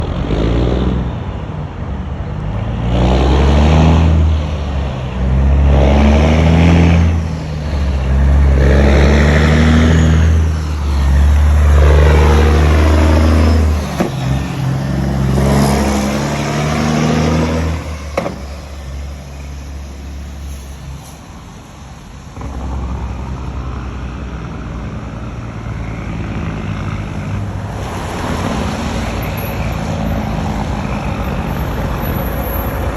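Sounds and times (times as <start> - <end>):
diesel truck engine running: 4.4 - 32.9.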